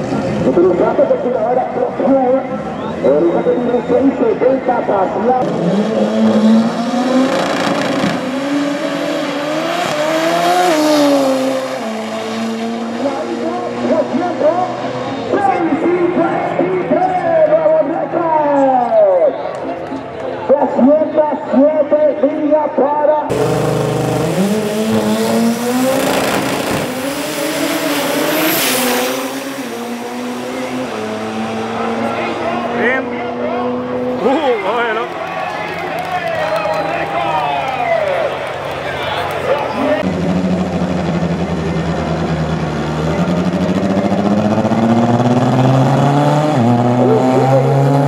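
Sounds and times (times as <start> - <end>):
drag car engine at full throttle: 0.0 - 18.0, 23.3 - 35.1, 38.1 - 48.0.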